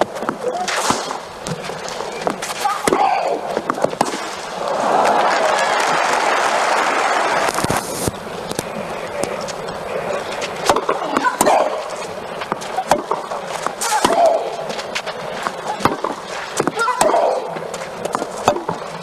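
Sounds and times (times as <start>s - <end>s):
racket hitting tennis ball: 0.0s - 4.8s, 7.4s - 19.0s
crowd murmur: 0.0s - 19.0s
crowd noise: 0.0s - 19.0s.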